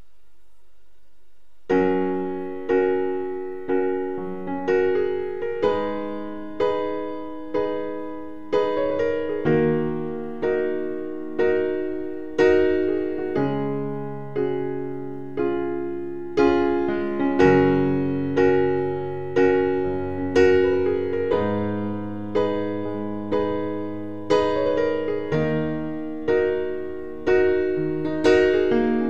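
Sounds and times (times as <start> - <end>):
gentle piano chords: 1.7 - 29.0.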